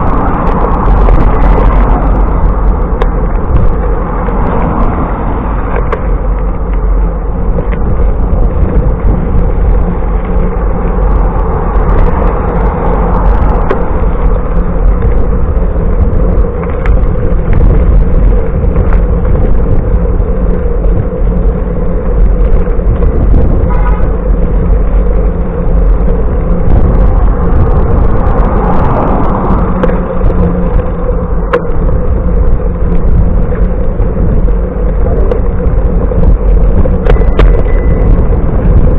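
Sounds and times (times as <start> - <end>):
road noise from traffic: 0.0 - 38.9
wind noise on microphone: 0.0 - 38.9.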